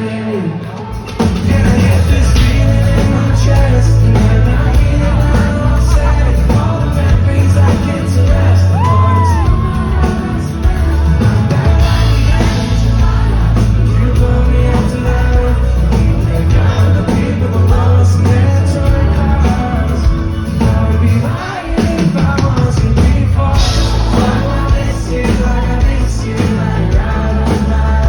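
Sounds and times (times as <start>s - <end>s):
lead singer: 0.0s - 28.0s
pop band playing live: 0.0s - 28.0s
heavy loud bass: 1.2s - 28.0s.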